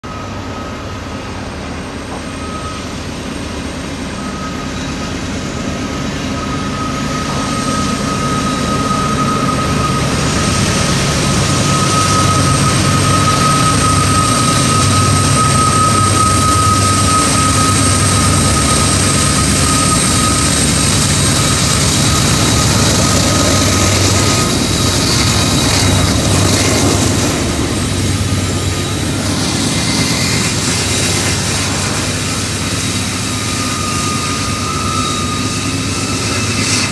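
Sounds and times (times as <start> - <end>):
diesel locomotive engines droning: 0.0 - 36.9
high locomotive whine: 0.0 - 36.9.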